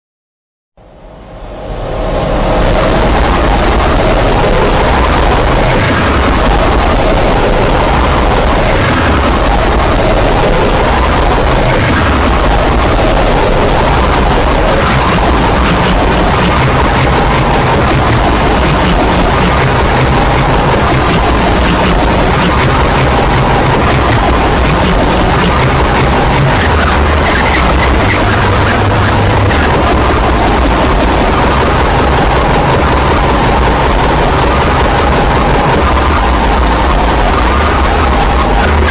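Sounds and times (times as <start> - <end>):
dense wall of noise: 0.8 - 38.9
loud distorted noise: 0.8 - 38.9
low held bass notes: 0.8 - 38.9.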